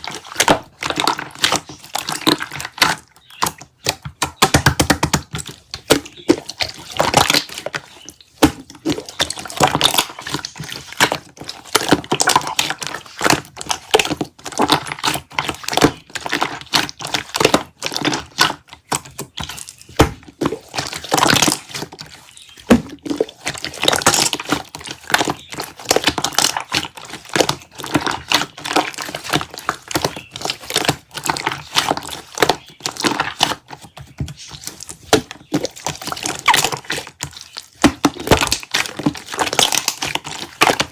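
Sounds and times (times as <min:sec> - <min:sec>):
slime squishing with sticky pops: 0:00.0 - 0:40.9.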